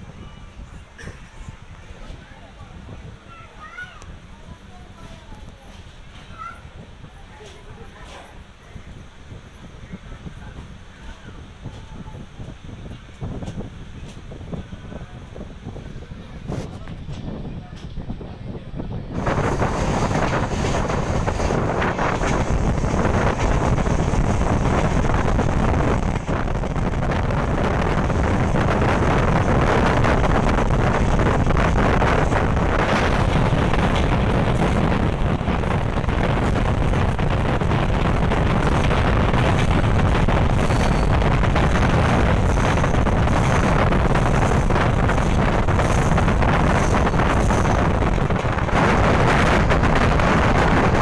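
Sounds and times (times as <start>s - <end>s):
train coaches running at speed: 0.0s - 51.0s
wind buffeting microphone: 0.0s - 51.0s.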